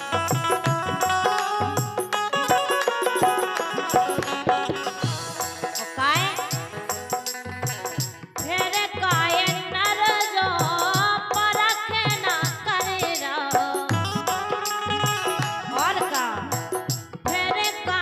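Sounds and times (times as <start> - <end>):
hand-drum beat: 0.0 - 18.0
harmonium chords: 0.0 - 18.0
woman singing into a microphone: 3.1 - 18.0.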